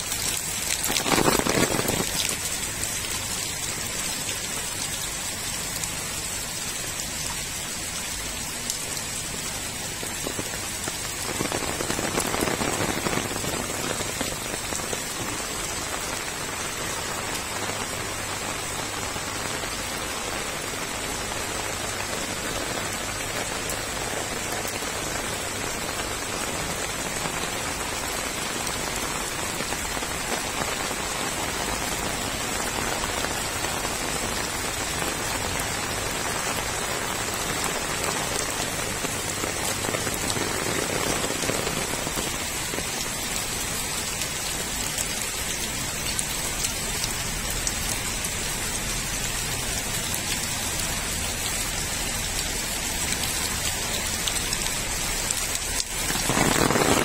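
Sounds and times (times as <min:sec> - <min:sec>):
rain falling on concrete: 0:00.0 - 0:57.0.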